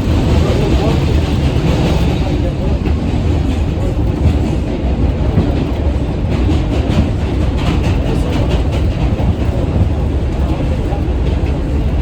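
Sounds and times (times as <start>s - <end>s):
subway train rumbling: 0.0s - 12.0s
wheels clattering on track: 0.0s - 12.0s.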